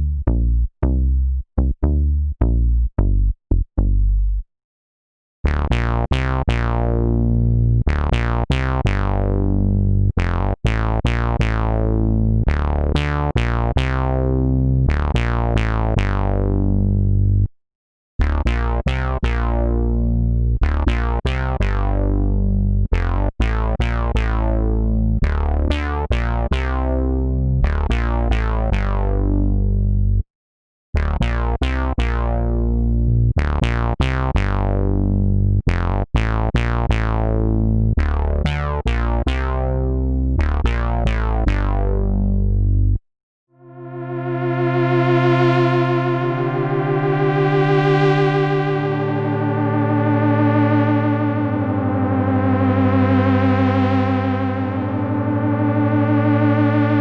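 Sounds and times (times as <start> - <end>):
synthesizer bass notes: 0.0 - 4.4, 5.5 - 17.5, 18.2 - 30.2, 31.0 - 43.0, 43.6 - 57.0
synthesizer plucked notes: 5.5 - 17.5, 18.2 - 30.1, 31.0 - 35.2, 35.8 - 42.9, 43.6 - 57.0.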